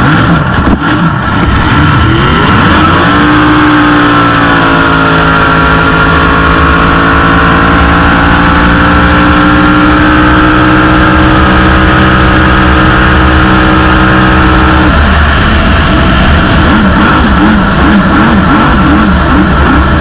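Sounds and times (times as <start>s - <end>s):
boat engine running loud: 0.0s - 20.0s.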